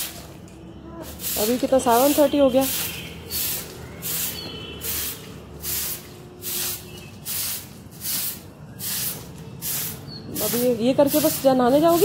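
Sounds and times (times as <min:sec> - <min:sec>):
hand broom sweeping paving: 0:00.0 - 0:00.4, 0:01.0 - 0:12.0.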